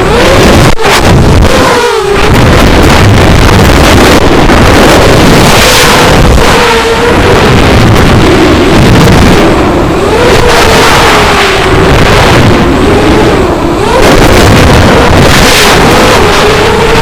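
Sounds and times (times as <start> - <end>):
quadcopter motors whining: 0.0 - 17.0
wind rush: 0.0 - 17.0.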